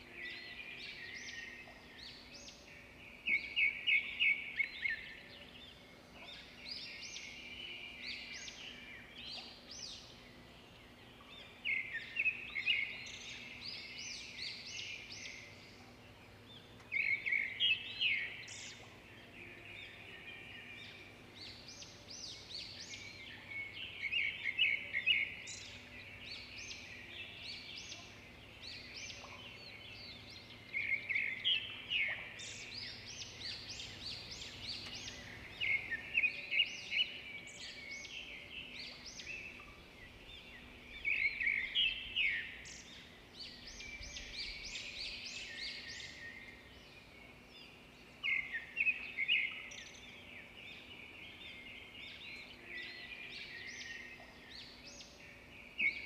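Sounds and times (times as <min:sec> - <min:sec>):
birds singing rapid chirps: 0:00.0 - 0:56.0.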